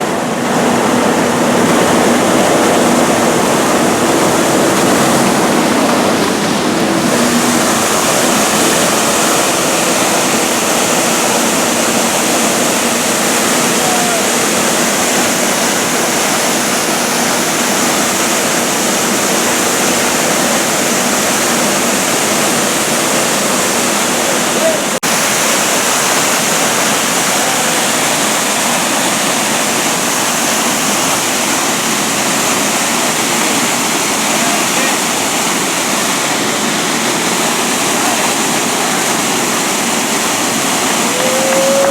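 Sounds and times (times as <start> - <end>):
water gushing from hydrant: 0.0 - 41.9.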